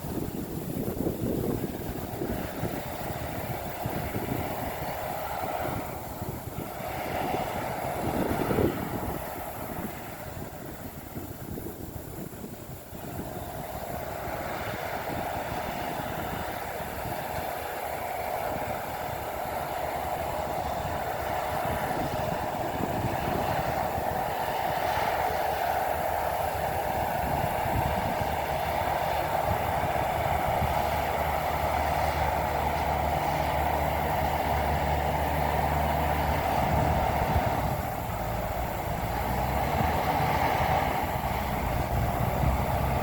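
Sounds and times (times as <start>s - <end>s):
distant bulldozer diesel engine rumble: 0.0s - 43.0s.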